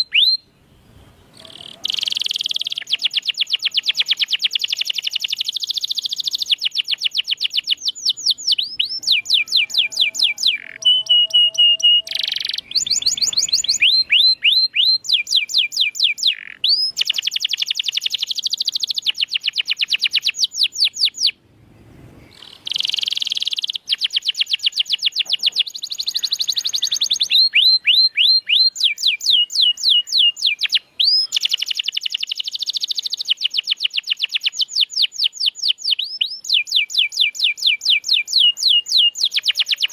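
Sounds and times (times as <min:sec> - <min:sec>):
canary singing trills: 0:00.0 - 0:00.6, 0:01.2 - 0:21.4, 0:22.2 - 0:39.9.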